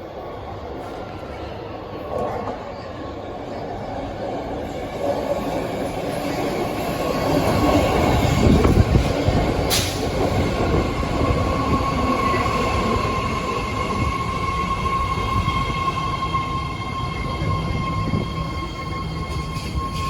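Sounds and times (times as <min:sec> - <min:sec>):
train high whine: 0:00.0 - 0:20.0
train wheels rumbling on rails: 0:00.6 - 0:20.0.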